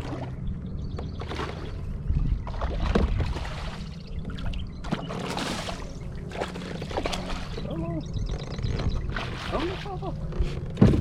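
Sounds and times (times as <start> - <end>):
water splashing and trickling: 0.0 - 11.0
wind buffeting microphone: 1.6 - 11.0.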